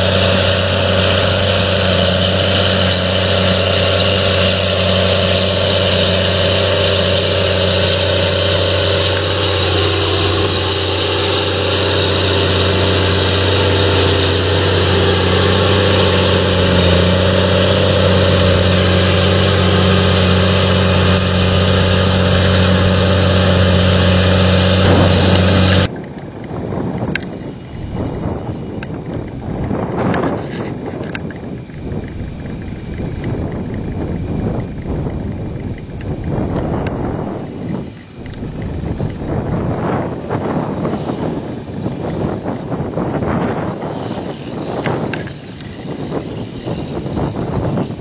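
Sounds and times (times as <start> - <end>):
engine droning: 0.0 - 48.0
wind noise: 0.0 - 48.0.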